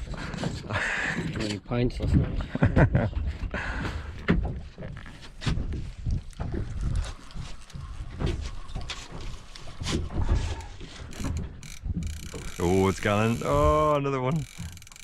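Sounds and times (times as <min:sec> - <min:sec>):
knocks and bumps on a boat: 0:00.0 - 0:15.0
low rumble of boat and water: 0:00.0 - 0:15.0.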